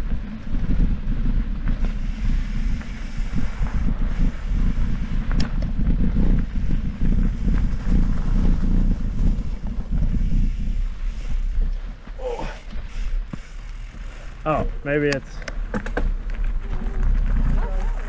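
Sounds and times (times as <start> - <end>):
bike tyres rumbling on dirt: 0.0 - 18.0
wind buffeting microphone: 0.0 - 18.0.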